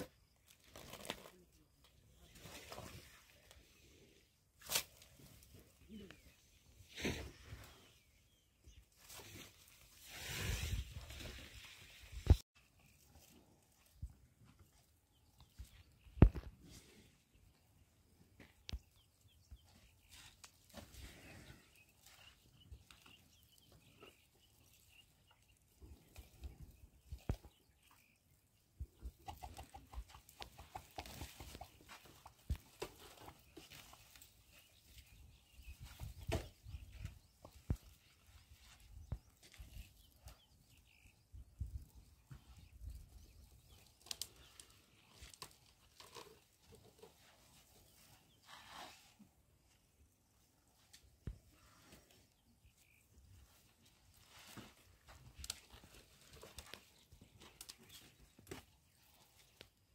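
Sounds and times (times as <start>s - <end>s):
soft bird chirps: 5.2s - 59.9s.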